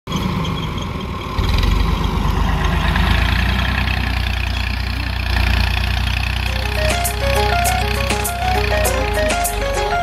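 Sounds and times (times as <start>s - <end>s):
tractor engine running: 0.1s - 10.0s.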